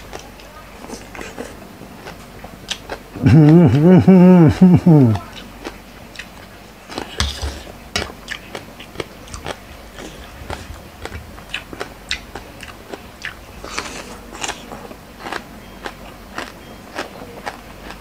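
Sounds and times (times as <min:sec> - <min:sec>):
person chewing crunchy food: 0:00.0 - 0:03.9, 0:04.5 - 0:18.0.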